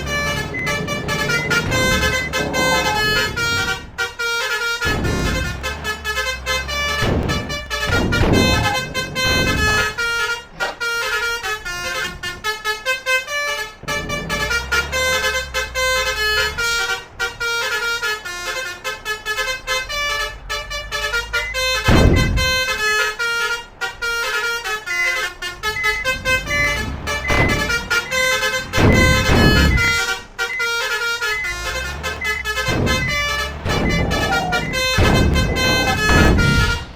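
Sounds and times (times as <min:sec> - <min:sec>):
engine rumble: 0:00.0 - 0:36.9
musical vehicle horns: 0:00.0 - 0:36.9
vehicle passing close: 0:00.0 - 0:36.9.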